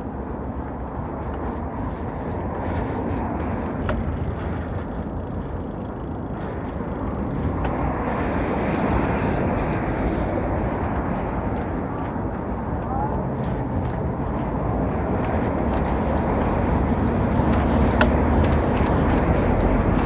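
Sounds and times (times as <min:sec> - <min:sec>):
bike tyre rumble on trail: 0:00.0 - 0:20.0
wind buffeting: 0:00.0 - 0:20.0.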